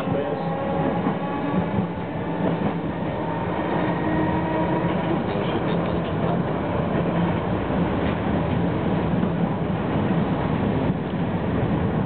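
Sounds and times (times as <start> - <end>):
tram wheels on rails: 0.0 - 12.0.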